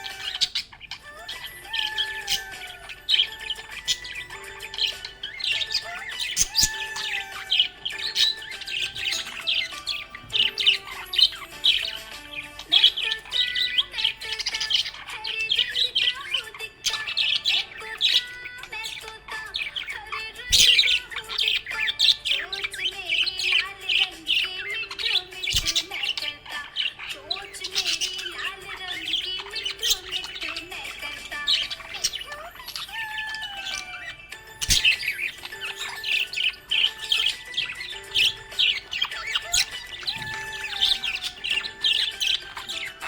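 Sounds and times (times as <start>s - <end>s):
budgerigar chirping and warbling: 0.0s - 43.0s.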